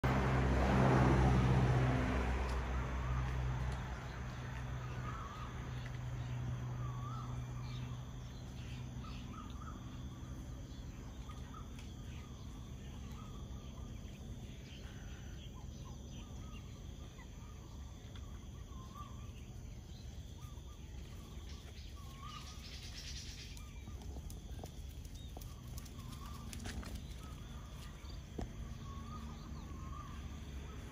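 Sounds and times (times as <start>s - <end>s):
low steady background noise: 2.0s - 30.9s
warbling bird calls: 2.7s - 30.9s.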